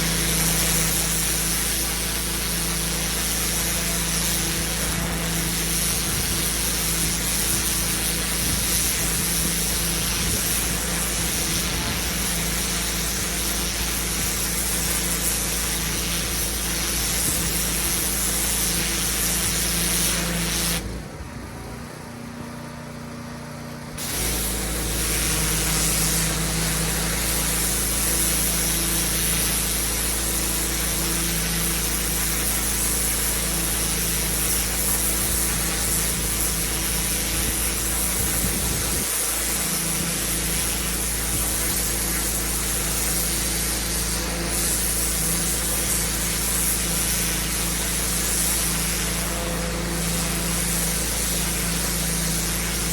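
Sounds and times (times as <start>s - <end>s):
high-pressure water spraying on paving: 0.0s - 21.0s, 24.0s - 52.9s
pressure washer engine humming: 0.0s - 52.9s.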